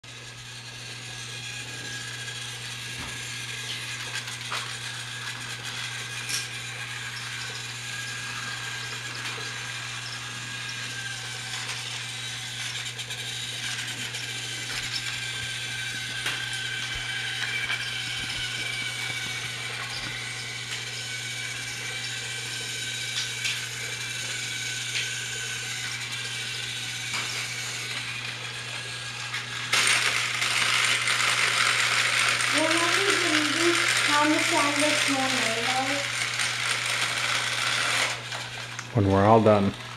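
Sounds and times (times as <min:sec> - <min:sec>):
toy train motors whirring: 0:00.1 - 0:39.9.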